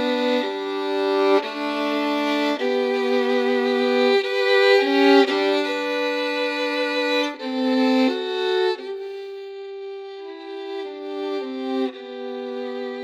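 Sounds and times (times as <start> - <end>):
slow violin music: 0.0 - 13.0.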